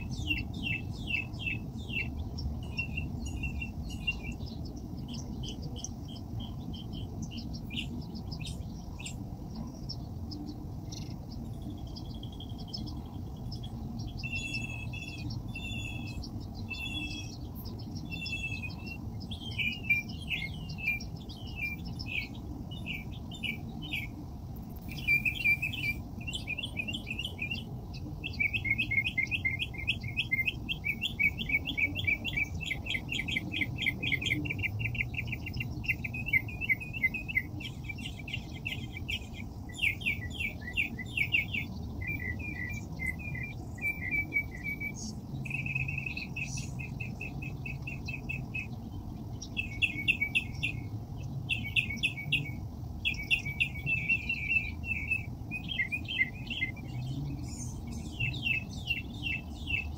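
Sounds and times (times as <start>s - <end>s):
songbird trilling: 0.0s - 24.2s, 24.8s - 59.9s.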